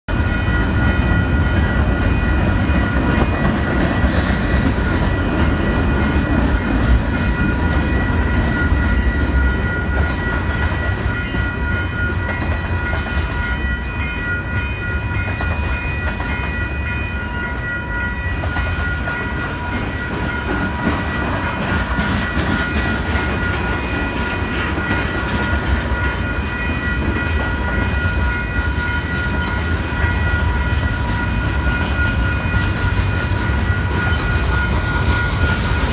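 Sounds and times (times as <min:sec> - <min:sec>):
freight train rumbling on rails: 0:00.1 - 0:35.9
high ringing tone: 0:00.1 - 0:35.9.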